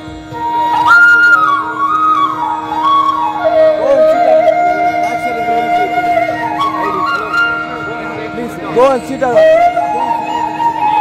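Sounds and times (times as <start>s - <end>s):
flute melody: 0.0s - 11.0s.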